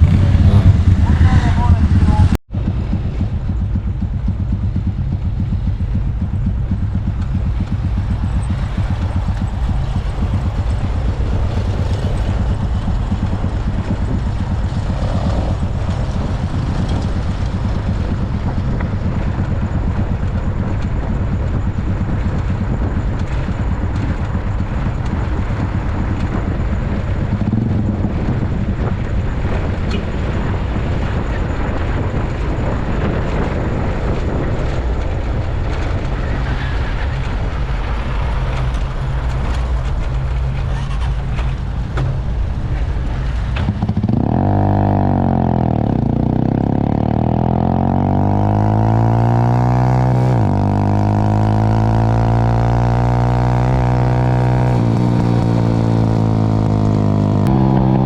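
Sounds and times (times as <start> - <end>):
motorcycle engine droning: 0.0 - 58.0
road noise: 0.0 - 58.0.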